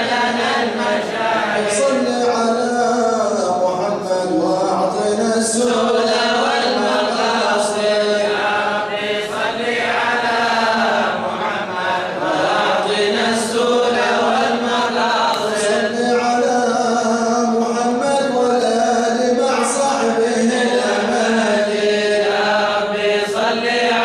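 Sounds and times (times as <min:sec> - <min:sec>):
men chanting devotional verse: 0:00.0 - 0:24.0.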